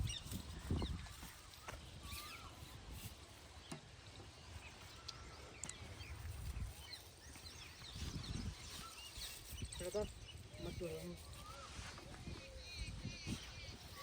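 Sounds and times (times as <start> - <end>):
bird chirps and calls: 0.0 - 14.0.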